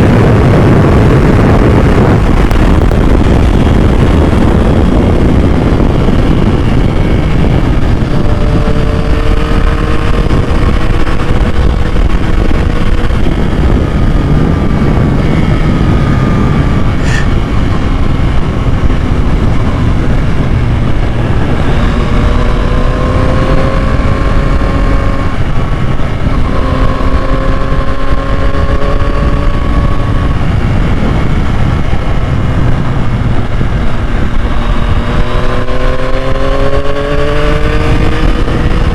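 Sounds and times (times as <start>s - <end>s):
motorcycle engine accelerating: 0.0s - 38.9s
wind noise rushing: 0.0s - 38.9s.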